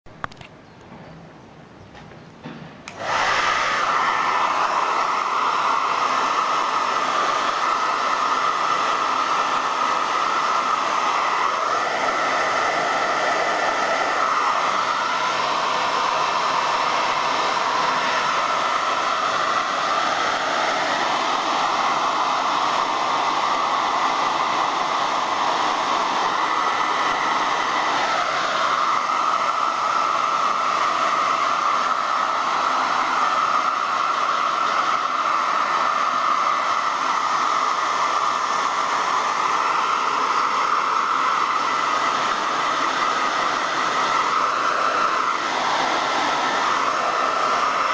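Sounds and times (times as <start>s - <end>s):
hair dryer running: 2.8s - 47.9s.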